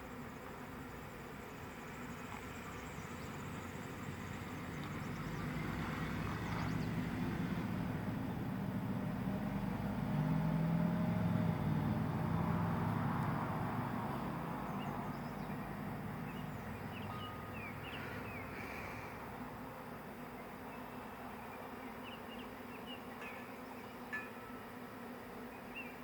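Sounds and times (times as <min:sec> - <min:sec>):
honey bees buzzing: 0:00.0 - 0:26.0
distant engine passing: 0:01.2 - 0:22.8.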